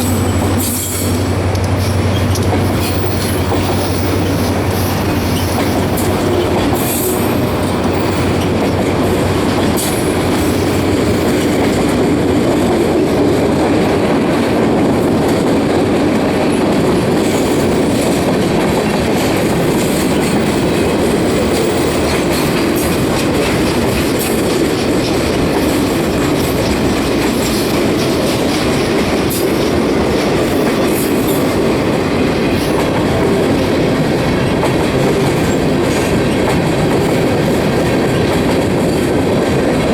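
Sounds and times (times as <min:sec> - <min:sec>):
clicking over rail joints: 0:00.0 - 0:39.9
train wheels rumbling on rails: 0:00.0 - 0:39.9.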